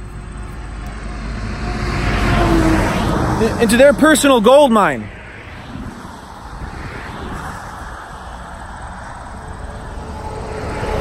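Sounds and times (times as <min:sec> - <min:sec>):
road traffic noise: 0:00.0 - 0:11.0
vehicle passing: 0:00.0 - 0:11.0.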